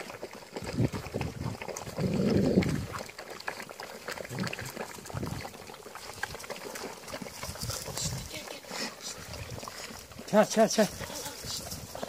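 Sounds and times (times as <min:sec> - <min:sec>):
dogs chewing and smacking: 0:00.0 - 0:12.0.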